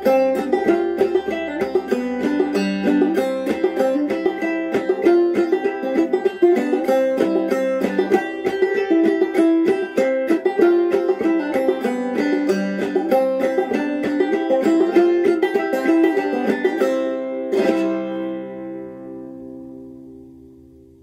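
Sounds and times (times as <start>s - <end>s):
banjo notes and strums: 0.0s - 21.0s.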